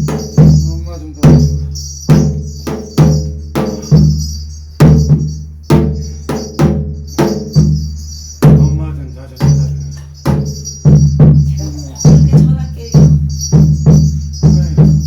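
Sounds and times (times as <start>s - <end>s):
high metallic jangle: 0.0s - 15.0s
loud drum strikes: 0.0s - 15.0s.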